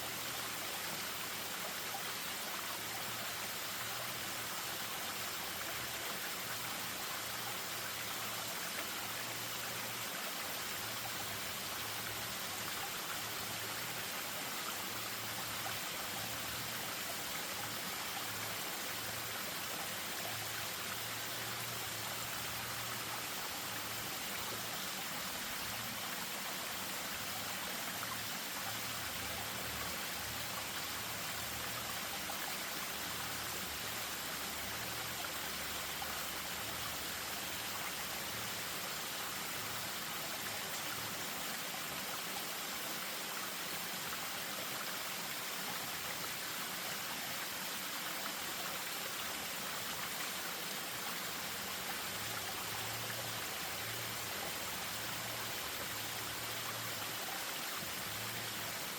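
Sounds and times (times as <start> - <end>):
stream over small waterfall: 0.0 - 58.9.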